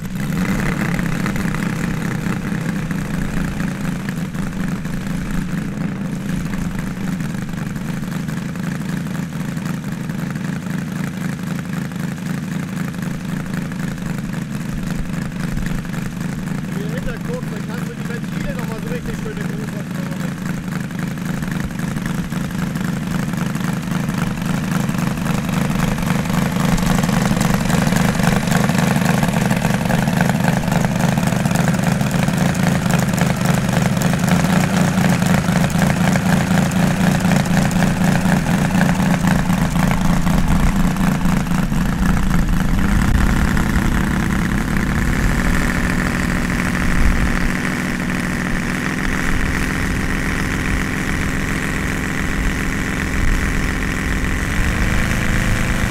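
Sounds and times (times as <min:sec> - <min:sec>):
model radial engine running: 0:00.0 - 0:55.9.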